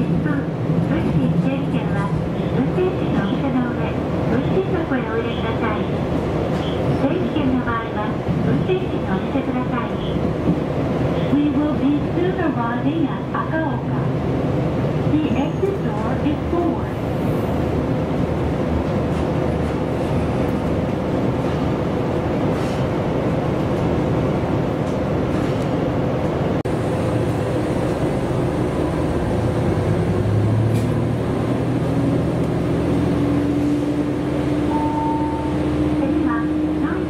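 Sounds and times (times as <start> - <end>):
rail running noise: 0.0 - 37.0
railcar engine drone: 0.0 - 37.0.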